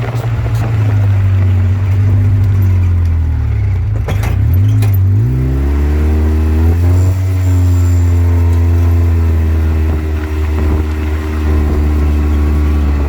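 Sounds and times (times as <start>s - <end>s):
utility vehicle engine droning: 0.0s - 13.0s.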